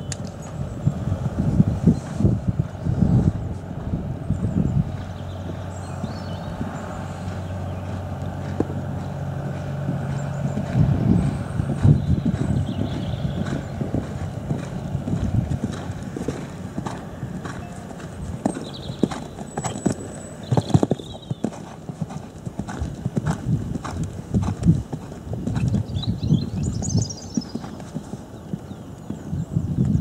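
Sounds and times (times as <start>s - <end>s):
horse cantering on sand: 0.0s - 30.0s.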